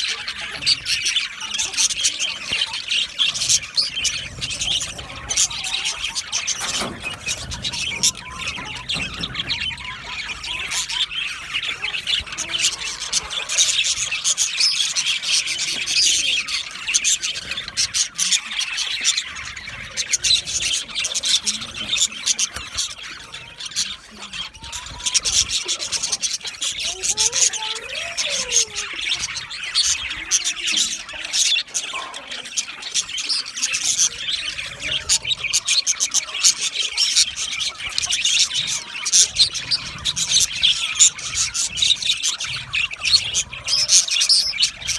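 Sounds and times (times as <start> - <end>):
budgerigars chirping: 0.0 - 44.9.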